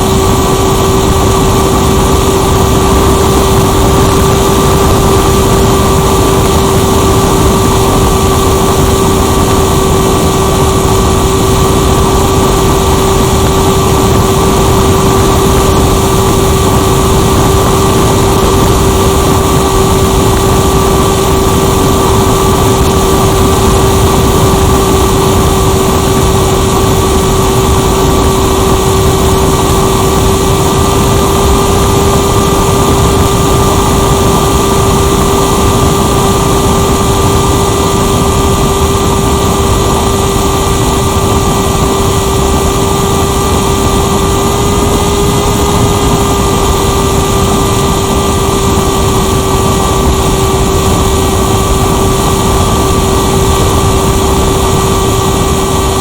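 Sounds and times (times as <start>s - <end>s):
model glider motor running: 0.0s - 56.0s.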